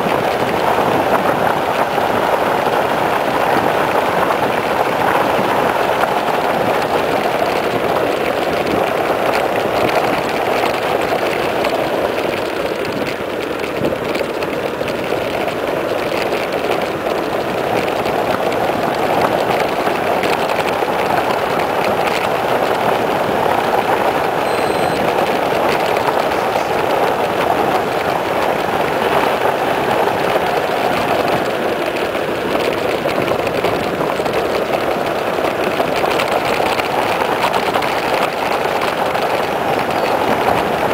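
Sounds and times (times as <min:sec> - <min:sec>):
tyre noise on asphalt: 0:00.0 - 0:40.9
wind rushing over microphone: 0:00.0 - 0:40.9.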